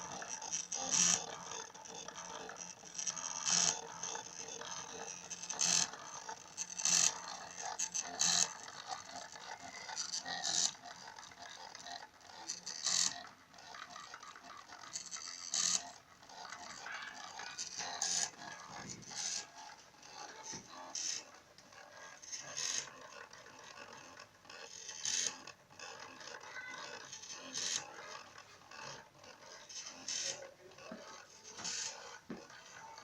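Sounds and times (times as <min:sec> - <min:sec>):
mechanical rustle: 0:00.0 - 0:33.0
stepper motors buzzing: 0:00.0 - 0:33.0.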